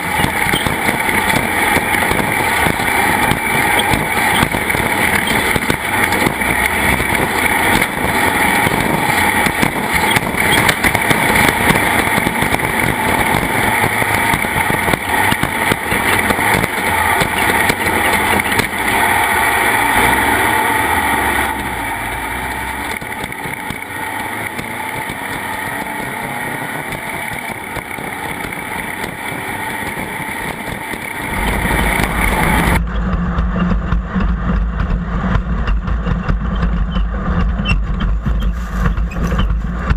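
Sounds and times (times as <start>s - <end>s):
engine running: 0.0s - 39.9s
rushing wind noise: 0.0s - 39.9s.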